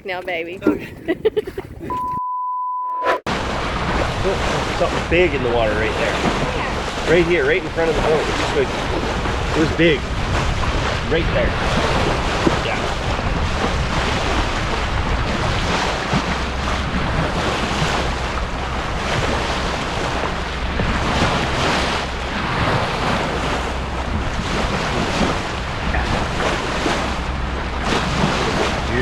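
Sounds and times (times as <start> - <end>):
water rushing around boat: 0.0 - 2.2, 3.3 - 29.0
wind noise on microphone: 0.0 - 2.2, 3.3 - 29.0.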